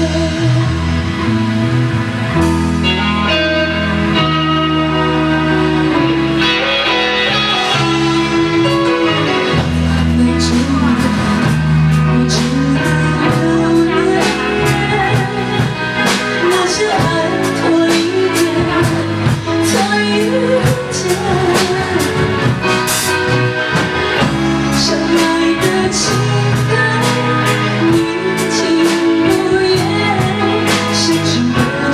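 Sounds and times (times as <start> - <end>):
guitar chords: 0.0 - 31.9
drums keeping a steady beat: 2.1 - 31.9.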